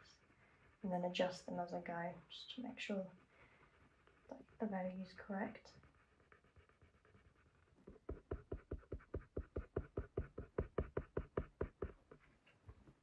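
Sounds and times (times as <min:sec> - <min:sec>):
pencil scribbling on paper: 0:00.0 - 0:12.3.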